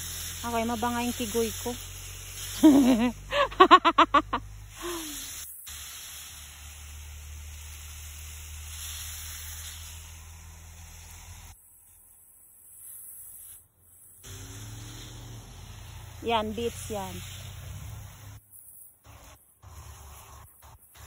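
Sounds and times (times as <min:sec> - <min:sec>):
garden hose spraying onto soil: 0:00.0 - 0:21.0.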